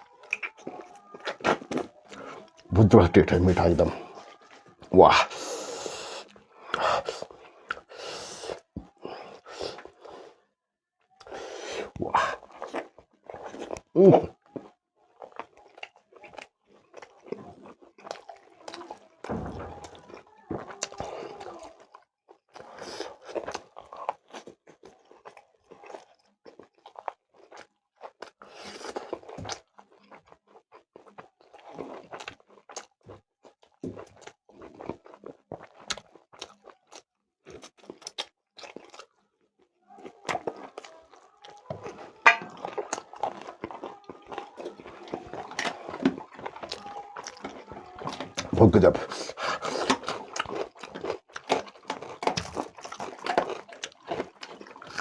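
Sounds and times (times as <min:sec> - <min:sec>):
person chewing and crunching food: 0:00.0 - 0:55.0.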